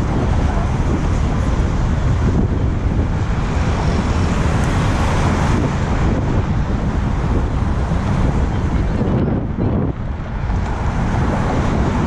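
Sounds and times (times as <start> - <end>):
traffic noise: 0.0 - 12.0
wind buffeting microphone: 0.0 - 12.0.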